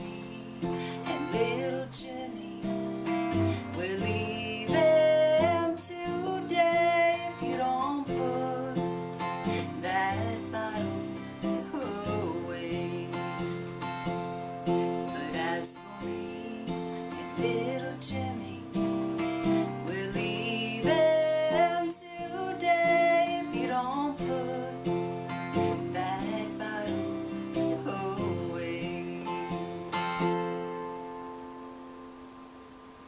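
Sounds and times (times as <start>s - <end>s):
woman singing: 0.0s - 29.8s
acoustic guitar strumming: 0.0s - 33.0s.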